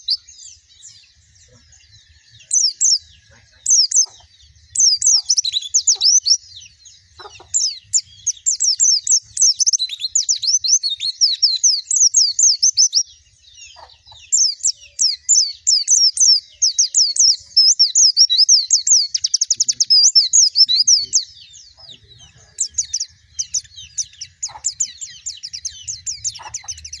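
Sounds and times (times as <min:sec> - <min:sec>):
bird twittering chirps: 0:00.0 - 0:27.0.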